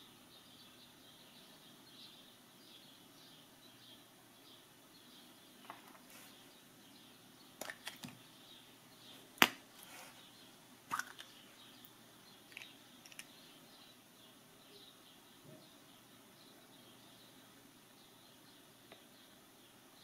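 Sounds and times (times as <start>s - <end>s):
birds chirping faintly: 0.0s - 20.0s.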